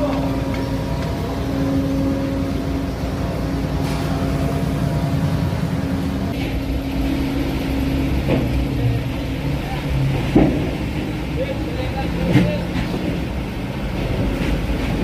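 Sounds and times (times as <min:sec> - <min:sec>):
constant hum: 0:00.0 - 0:15.0
low engine drone: 0:00.0 - 0:15.0.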